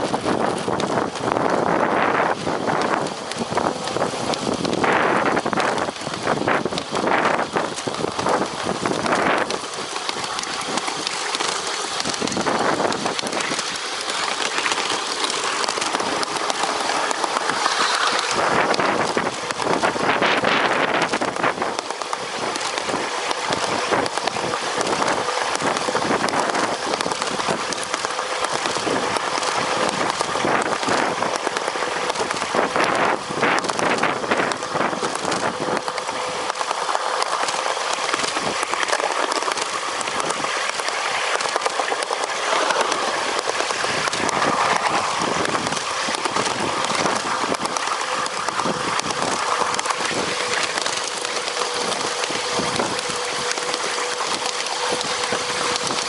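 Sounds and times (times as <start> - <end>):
clacks: 0.0 - 56.0
steel wheels rushing on rails: 0.0 - 56.0
wind: 0.0 - 56.0.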